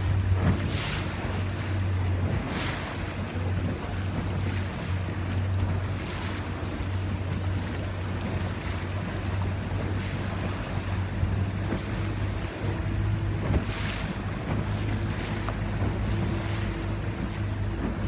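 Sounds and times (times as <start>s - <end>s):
boat engine humming: 0.0s - 18.0s
water washing: 0.0s - 18.0s
wind buffeting microphone: 0.0s - 18.0s.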